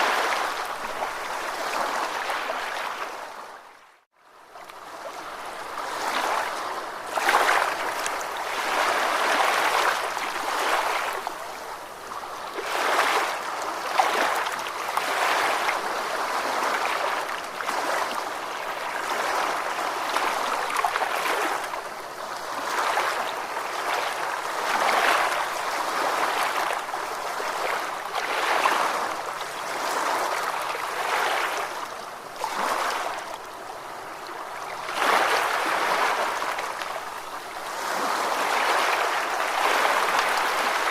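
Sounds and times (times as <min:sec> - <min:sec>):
small waves lapping: 0:00.0 - 0:40.9.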